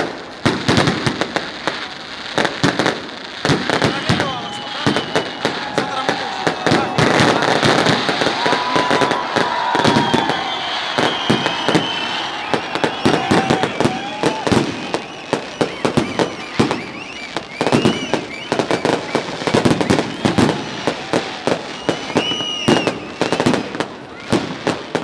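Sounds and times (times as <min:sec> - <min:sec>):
fireworks bangs and crackling pops: 0:00.0 - 0:25.0.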